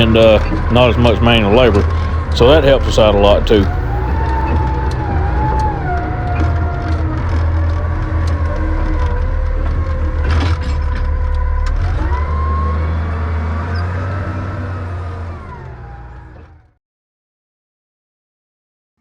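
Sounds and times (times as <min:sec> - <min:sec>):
whine sliding in pitch: 0:00.0 - 0:16.4
loader engine revving: 0:00.0 - 0:16.7.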